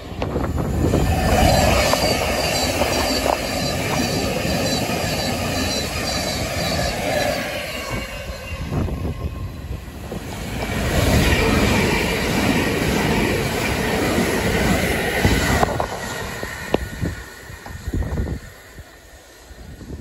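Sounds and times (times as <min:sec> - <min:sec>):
electric trains passing: 0:00.0 - 0:20.0.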